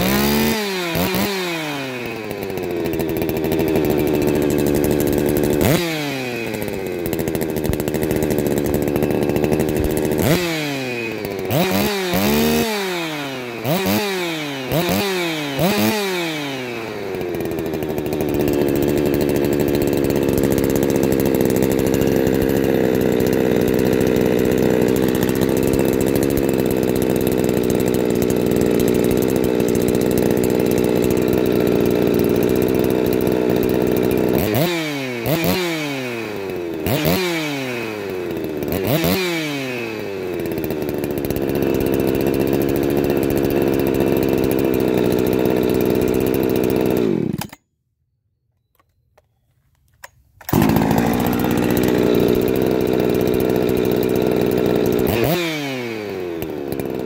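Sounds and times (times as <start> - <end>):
chainsaw revving: 0.0 - 47.6, 50.4 - 57.0
chainsaw idling: 0.0 - 47.7, 50.0 - 57.0.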